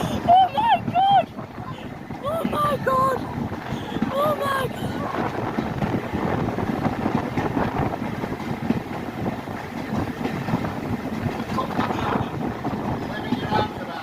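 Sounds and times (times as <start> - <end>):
moving train rumbling and clattering: 0.0 - 14.0
wind buffeting microphone: 0.0 - 14.0.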